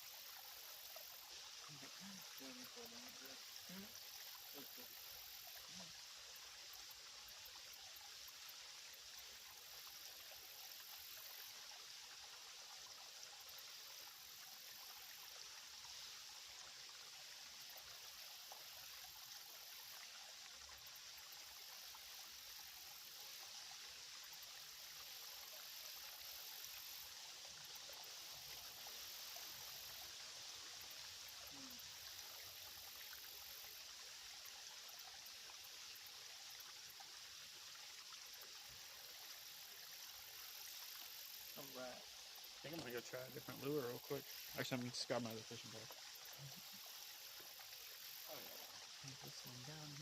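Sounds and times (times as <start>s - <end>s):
creek water trickling: 0.0s - 50.0s.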